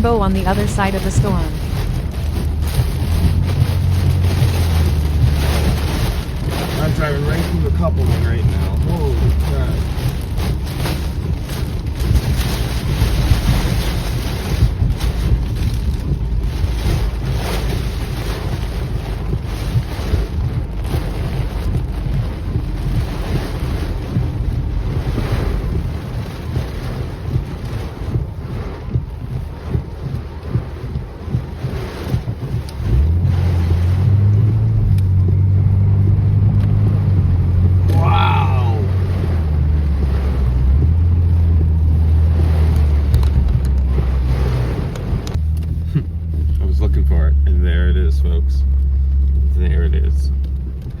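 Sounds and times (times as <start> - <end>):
wind buffeting microphone: 0.0 - 45.8
car road and engine rumble: 0.0 - 51.0.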